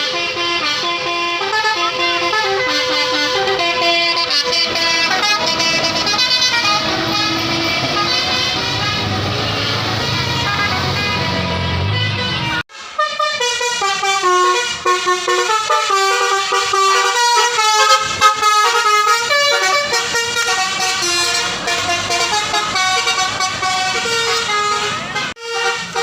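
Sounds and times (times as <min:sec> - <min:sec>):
bus engine running: 0:00.0 - 0:26.0
musical air horn melody: 0:00.0 - 0:26.0.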